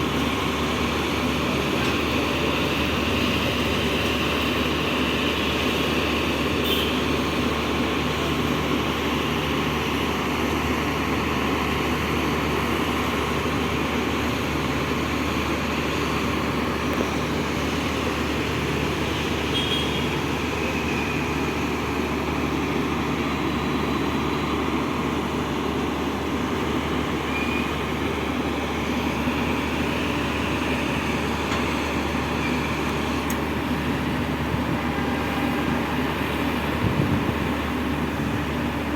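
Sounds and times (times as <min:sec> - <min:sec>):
heavy machinery drone: 0:00.0 - 0:38.9.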